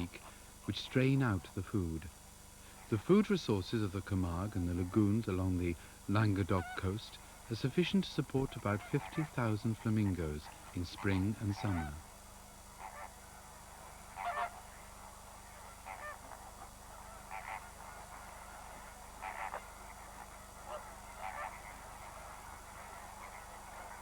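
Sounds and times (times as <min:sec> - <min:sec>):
faint steady background: 0:00.0 - 0:24.0
flamingos honking: 0:02.8 - 0:24.0.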